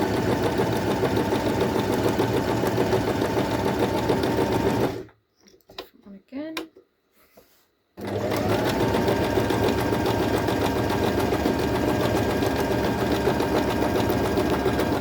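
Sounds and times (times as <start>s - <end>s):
sewing machine stitching: 0.0s - 5.1s, 8.0s - 15.0s.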